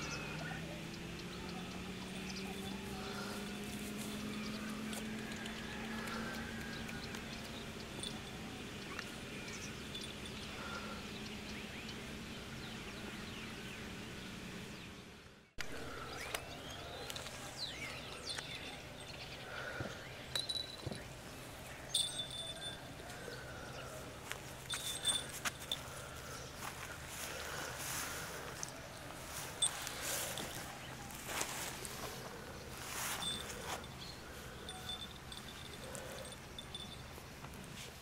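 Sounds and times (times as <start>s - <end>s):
birds chirping and calling: 0.0s - 37.8s
steady low hum: 0.0s - 38.0s.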